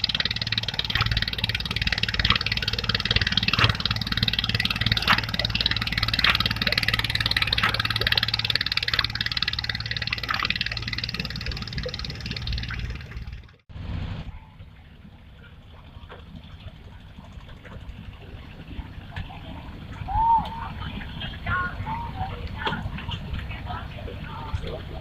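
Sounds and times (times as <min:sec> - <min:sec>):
engine running with clattering rattle: 0:00.0 - 0:25.0.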